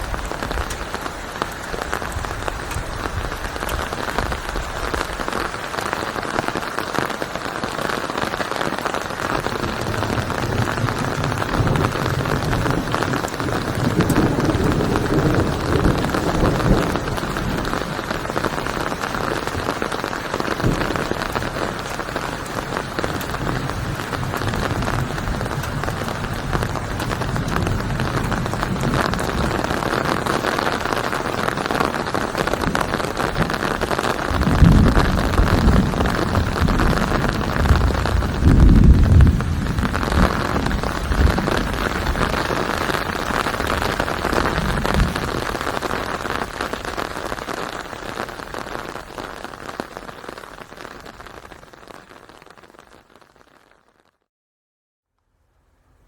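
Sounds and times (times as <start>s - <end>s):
dense rain falling: 0.0s - 54.2s.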